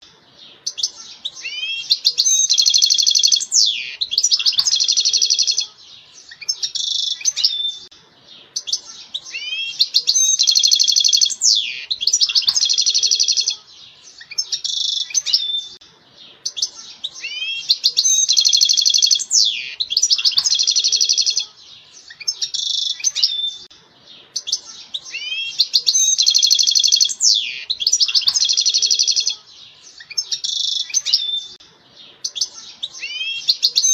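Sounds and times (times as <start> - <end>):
goldfinch singing: 0.3 - 33.9.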